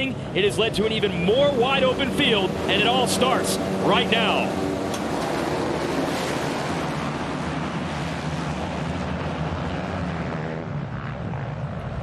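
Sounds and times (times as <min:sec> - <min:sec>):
motocross bikes at full throttle: 0:00.0 - 0:12.0.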